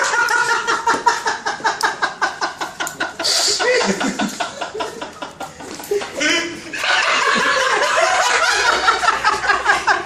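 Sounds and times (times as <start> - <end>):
men laughing hard: 0.0 - 10.0.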